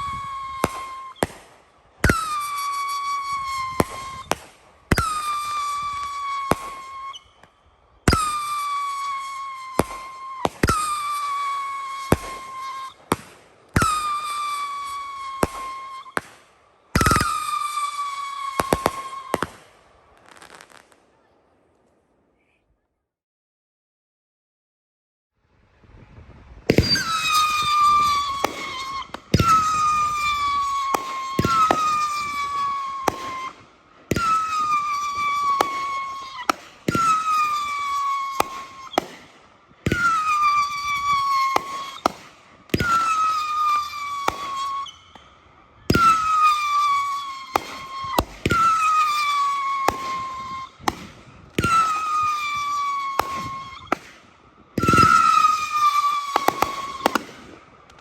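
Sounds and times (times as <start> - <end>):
firework cracks and bangs: 0.0 - 21.0, 26.6 - 58.0
firework shots whistling: 0.0 - 21.0, 26.7 - 58.0.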